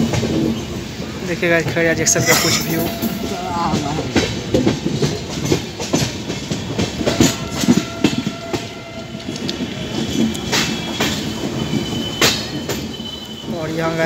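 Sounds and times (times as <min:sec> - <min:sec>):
train rumble: 0:00.0 - 0:14.0
train wheels clattering: 0:00.0 - 0:14.0.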